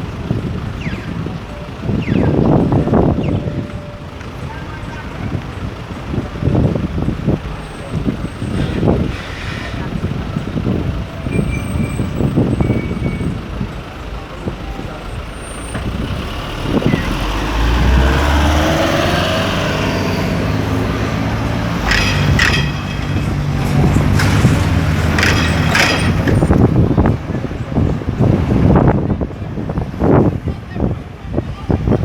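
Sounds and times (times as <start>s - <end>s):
heavy vehicle engine passing: 0.0s - 32.0s
motor traffic: 0.0s - 32.0s
voices: 0.0s - 32.0s.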